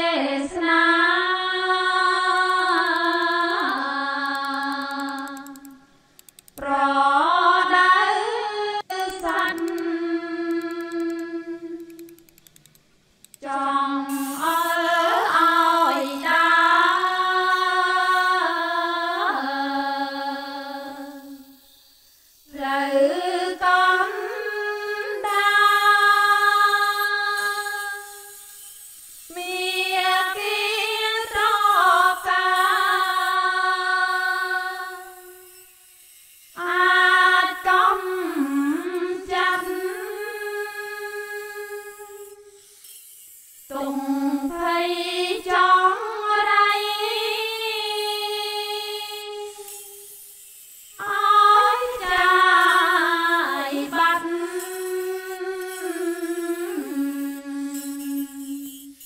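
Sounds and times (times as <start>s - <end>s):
slow sung melody: 0.0s - 12.4s, 13.3s - 42.7s, 43.7s - 50.2s, 50.9s - 59.0s.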